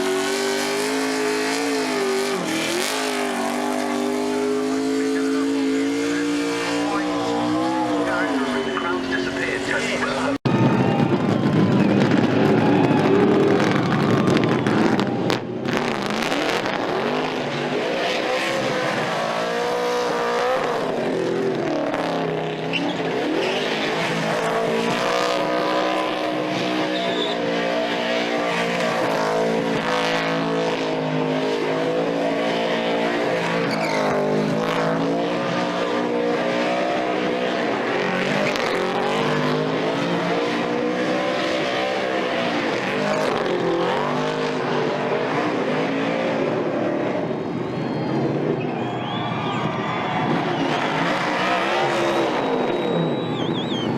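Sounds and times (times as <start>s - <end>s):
car engine revving hard: 0.0s - 10.4s, 12.0s - 49.2s, 49.8s - 53.9s.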